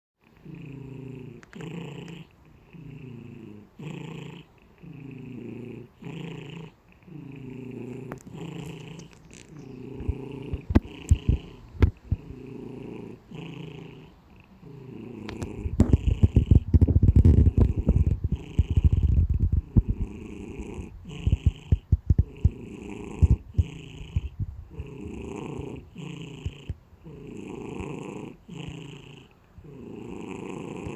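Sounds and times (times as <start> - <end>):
cat snoring: 0.4 - 30.9.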